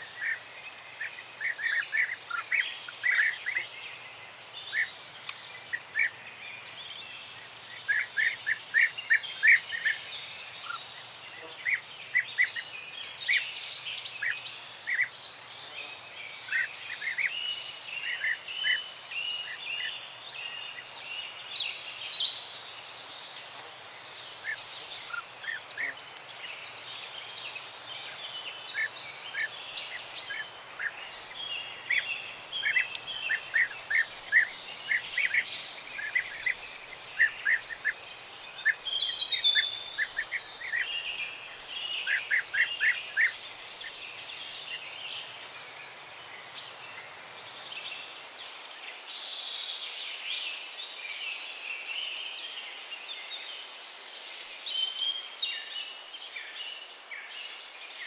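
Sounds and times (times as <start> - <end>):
outdoor background hiss: 0.0 - 58.0
songbirds chirping: 0.0 - 58.0.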